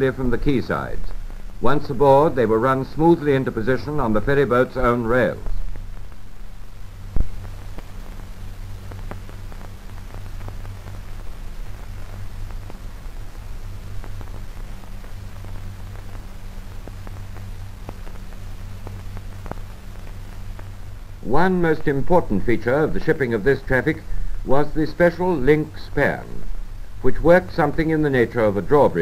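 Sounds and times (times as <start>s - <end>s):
crackles and clicks: 0.0s - 29.0s
film soundtrack hiss: 0.0s - 29.0s
low hum: 0.0s - 29.0s.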